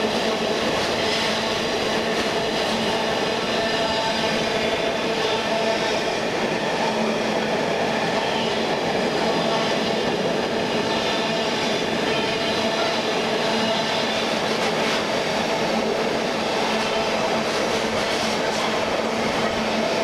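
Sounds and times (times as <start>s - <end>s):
steel wheels running on rails: 0.0s - 20.0s.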